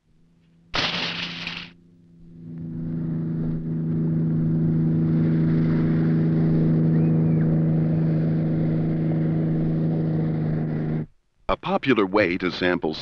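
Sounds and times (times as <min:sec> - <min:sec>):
speedboat engine drone: 0:00.0 - 0:11.1.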